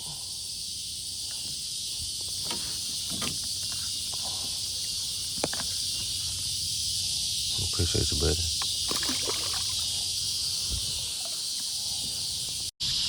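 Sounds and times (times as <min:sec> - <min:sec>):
crickets and katydids droning: 0:00.0 - 0:13.0.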